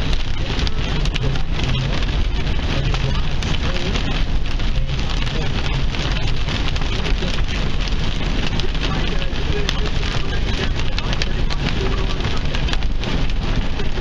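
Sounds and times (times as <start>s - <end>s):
heavy rain drumming on car: 0.0s - 14.0s
road and engine rumble: 0.0s - 14.0s.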